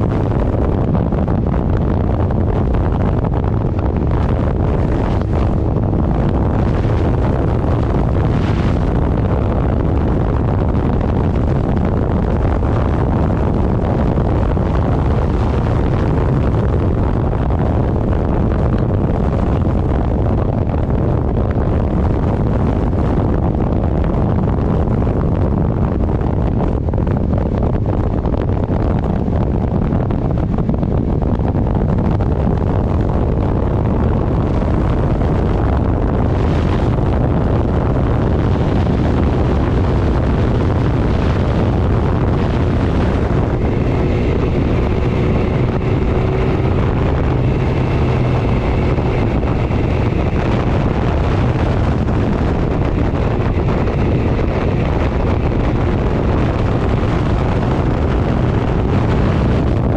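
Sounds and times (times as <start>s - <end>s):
road and engine noise: 0.0s - 59.9s
wind buffeting microphone: 0.0s - 59.9s.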